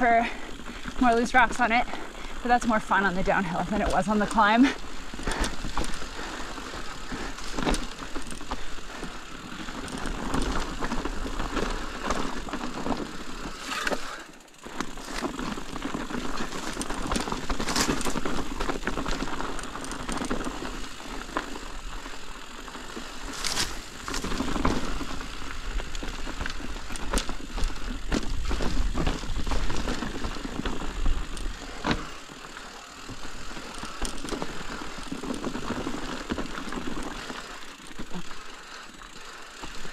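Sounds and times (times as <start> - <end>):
bike rattling: 0.0 - 39.9
tyres crunching over loose rocks: 0.0 - 39.9.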